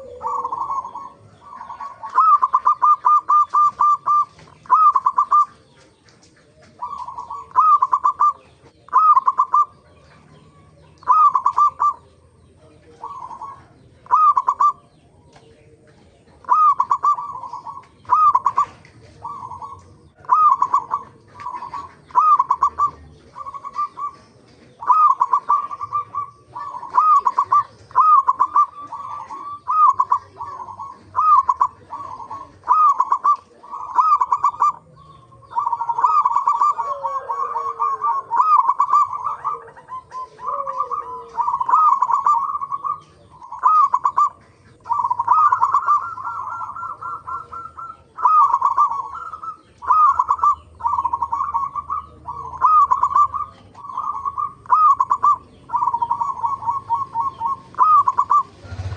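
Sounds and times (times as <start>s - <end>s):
dove cooing: 0.0s - 58.9s.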